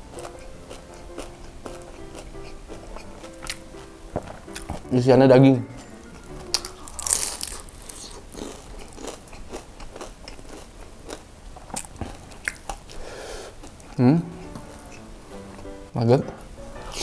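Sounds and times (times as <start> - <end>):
crunchy chewing: 0.0 - 4.9, 5.7 - 15.7.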